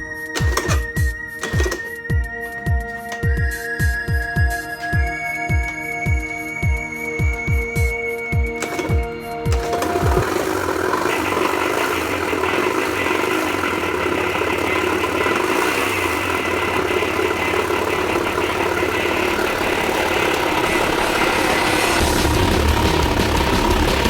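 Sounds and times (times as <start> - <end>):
scooter engine idling with knocking: 0.3 - 24.0.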